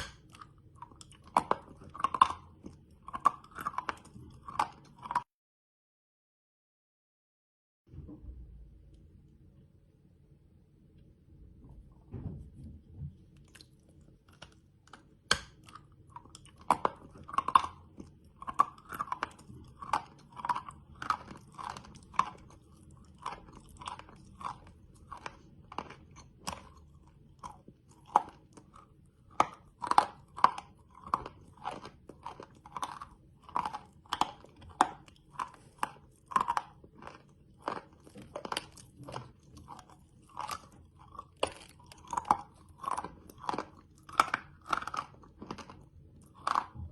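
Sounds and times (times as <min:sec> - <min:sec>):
crunchy chewing: 0:00.0 - 0:05.3, 0:13.3 - 0:46.9.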